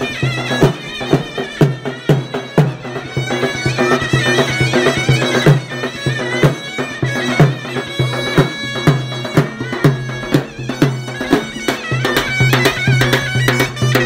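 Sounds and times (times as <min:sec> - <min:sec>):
drum beat: 0:00.0 - 0:14.0
wind instrument melody: 0:00.0 - 0:14.0.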